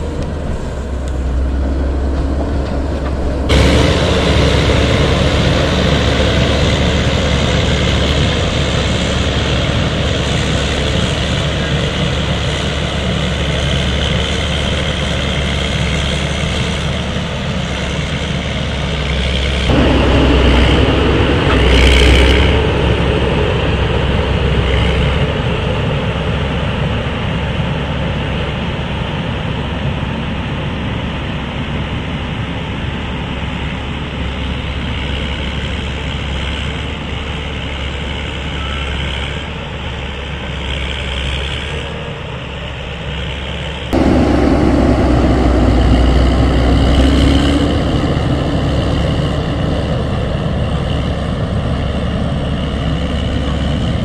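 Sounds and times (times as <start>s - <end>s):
motor grader diesel engine: 0.0s - 54.0s.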